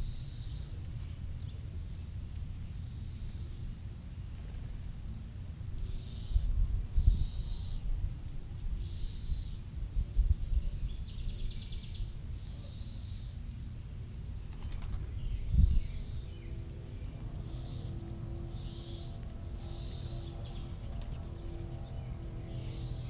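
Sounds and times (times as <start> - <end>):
small birds chirping: 0.0 - 5.0, 5.6 - 23.0.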